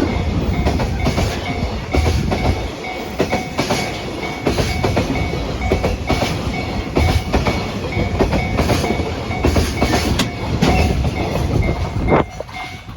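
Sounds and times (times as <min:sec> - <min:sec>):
freight train rumble: 0:00.0 - 0:12.9
level crossing warning bell: 0:00.0 - 0:12.9
train wheels clacking over rail joints: 0:00.0 - 0:12.9.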